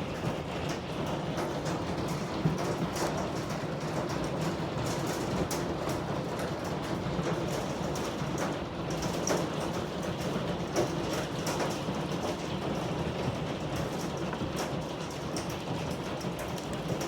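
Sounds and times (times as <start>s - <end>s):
hailstones ticking on hard surfaces: 0.1s - 17.0s.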